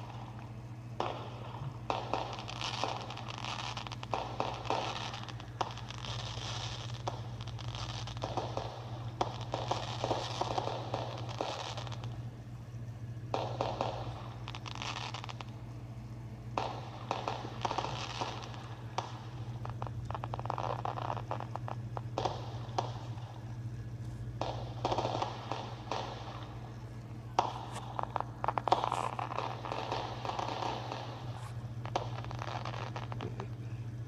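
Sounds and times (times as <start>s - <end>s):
fireworks crackling and popping: 0.0s - 34.0s
steady low hum: 0.0s - 34.0s.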